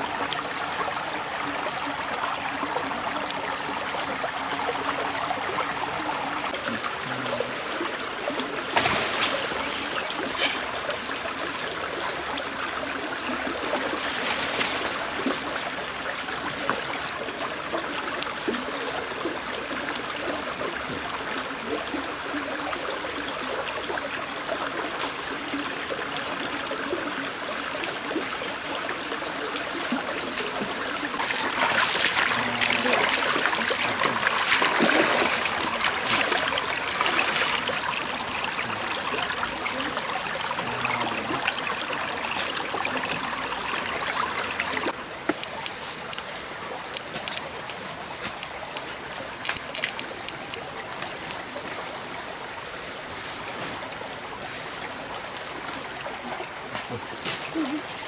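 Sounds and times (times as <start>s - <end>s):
stream water running: 0.0s - 58.0s.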